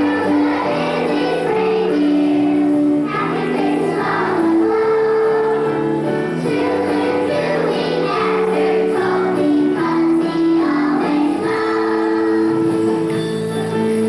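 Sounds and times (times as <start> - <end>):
children's choir singing: 0.0 - 14.0
musical accompaniment: 0.0 - 14.0.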